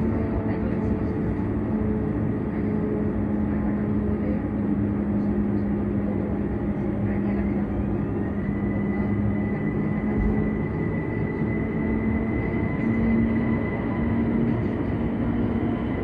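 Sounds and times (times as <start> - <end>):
low hum: 0.0 - 16.0
train wheels rumbling on rail: 0.0 - 16.0.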